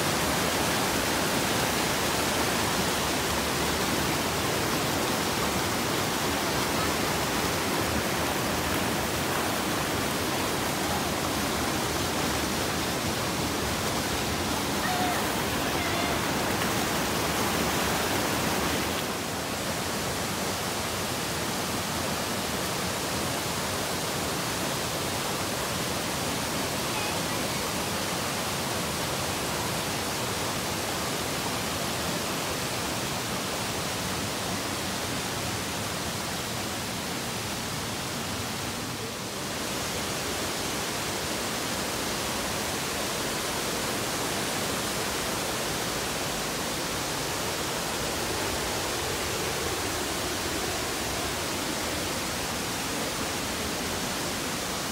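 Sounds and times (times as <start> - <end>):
stream rushing over boulders: 0.0 - 54.9.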